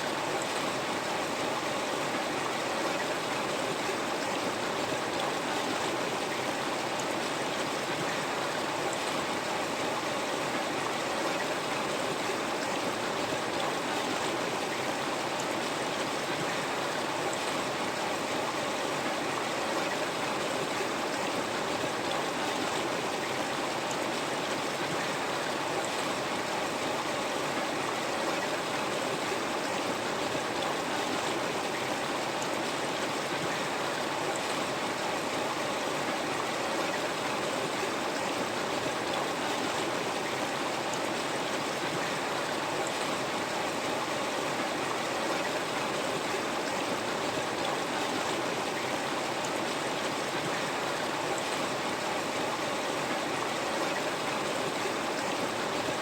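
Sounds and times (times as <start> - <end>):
river water flowing: 0.0 - 56.0.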